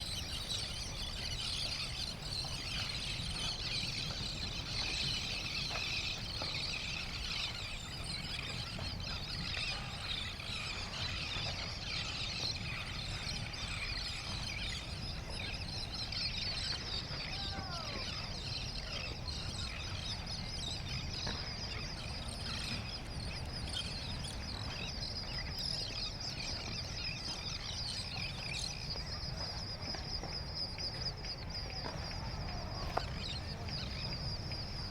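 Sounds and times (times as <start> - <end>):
small birds chirping chorus: 0.0 - 34.9.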